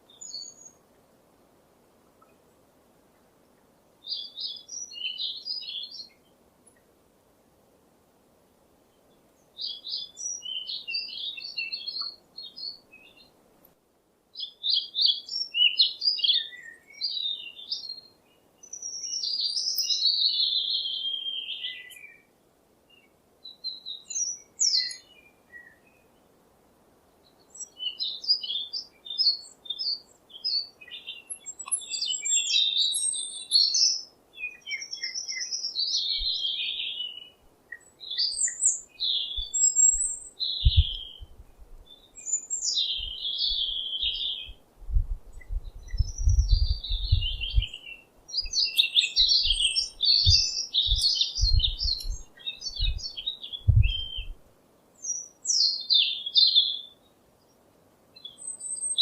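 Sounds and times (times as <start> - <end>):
songbird chirping and warbling: 0.0 - 0.9, 3.1 - 6.9, 8.9 - 13.4, 14.4 - 26.3, 27.2 - 54.4, 55.0 - 59.0.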